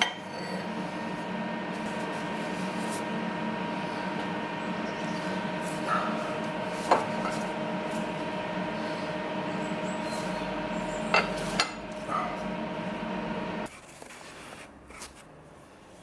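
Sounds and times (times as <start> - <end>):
metal lathe humming: 0.0 - 13.7.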